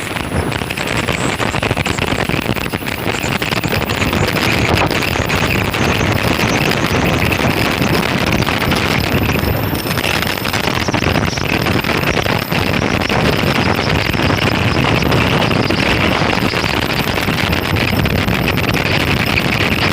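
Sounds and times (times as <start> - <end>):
cutting torch hissing and crackling: 0.0 - 19.9.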